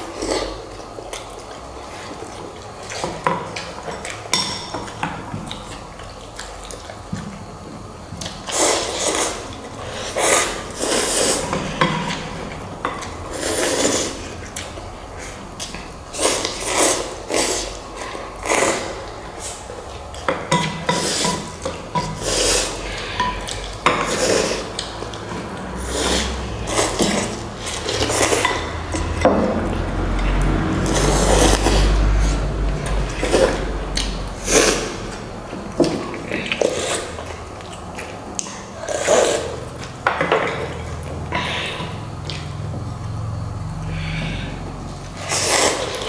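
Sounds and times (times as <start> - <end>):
noisy eating bursts: 0.0 - 46.0.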